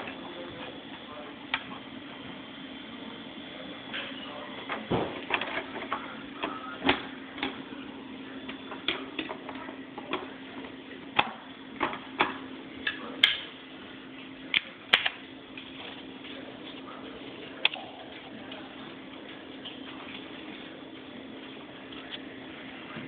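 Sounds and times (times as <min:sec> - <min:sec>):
computer humming: 0:00.0 - 0:23.0.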